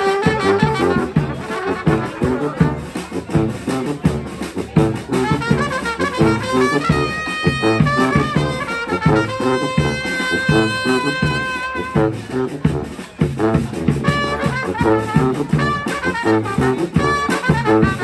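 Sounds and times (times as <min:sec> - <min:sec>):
street band horns playing: 0:00.0 - 0:18.0.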